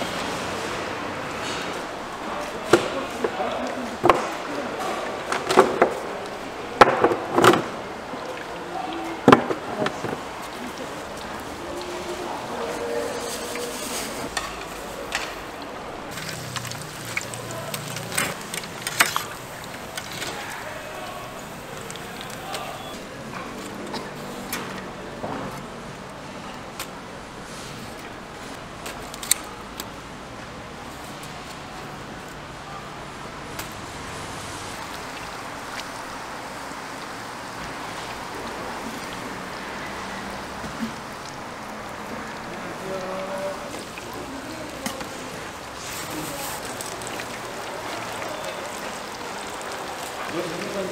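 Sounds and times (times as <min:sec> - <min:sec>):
frying oil sizzling: 0:00.0 - 0:26.7, 0:33.3 - 0:50.9.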